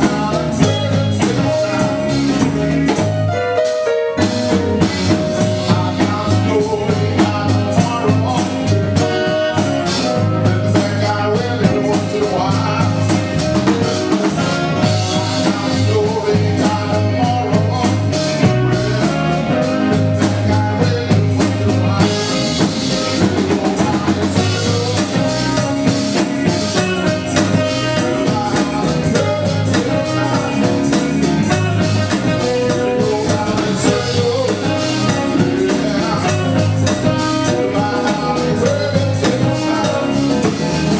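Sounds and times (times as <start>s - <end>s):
voices singing: 0.0s - 3.2s, 4.4s - 40.9s
drum kit beat: 0.0s - 40.9s
live band playing: 0.0s - 40.9s.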